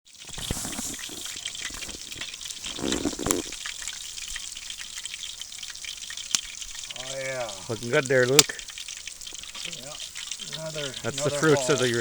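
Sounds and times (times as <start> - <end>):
fish frying in hot oil: 0.1 - 12.0.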